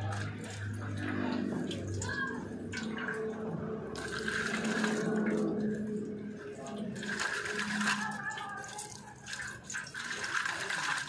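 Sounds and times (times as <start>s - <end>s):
liquid splashing and sloshing: 0.0s - 11.0s.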